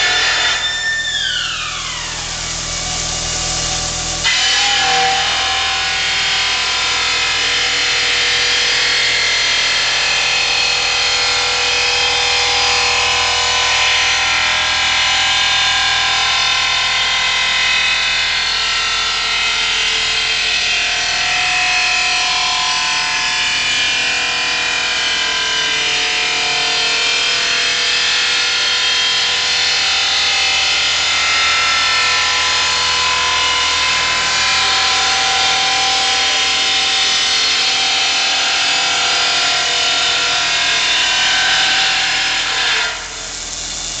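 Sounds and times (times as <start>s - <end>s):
milling machine cutting marble: 0.0s - 44.0s.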